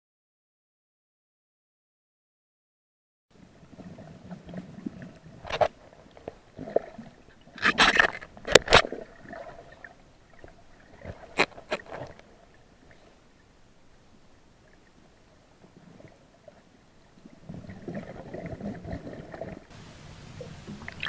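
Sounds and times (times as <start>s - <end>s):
low underwater hum: 3.3s - 21.0s.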